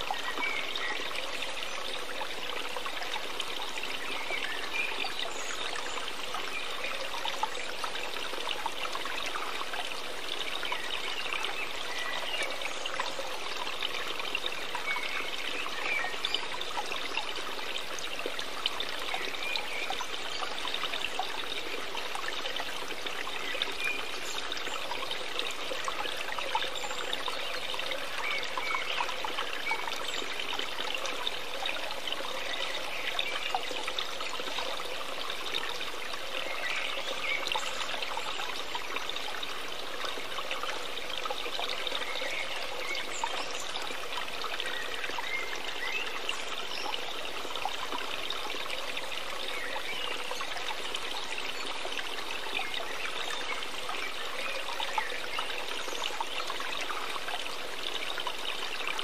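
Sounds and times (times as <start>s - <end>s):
running water trickling: 0.0s - 59.0s.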